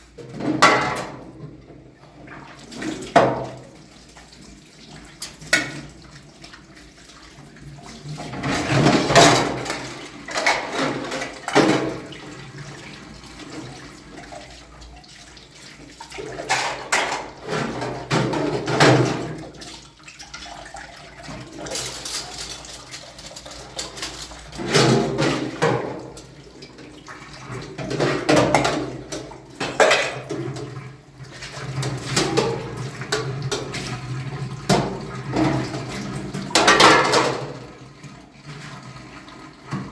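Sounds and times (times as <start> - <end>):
water splashing and pouring: 2.2 - 39.9.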